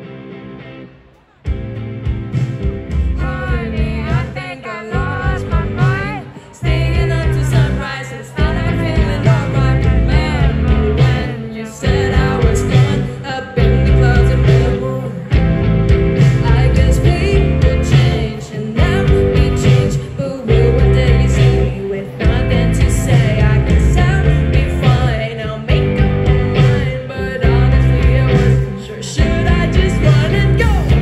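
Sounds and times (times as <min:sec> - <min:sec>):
live band playing pop rock: 0:00.0 - 0:31.0
woman singing: 0:03.1 - 0:15.5, 0:16.2 - 0:31.0.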